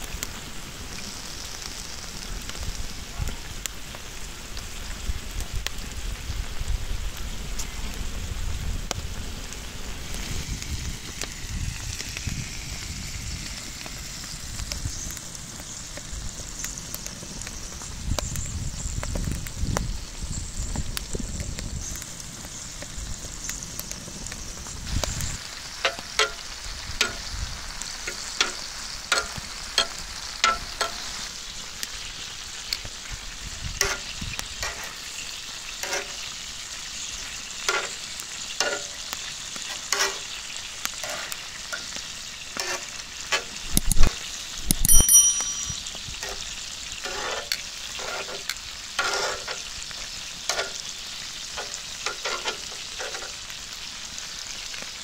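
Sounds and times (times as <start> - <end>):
seafood sizzling on hot plate: 0.0 - 55.0.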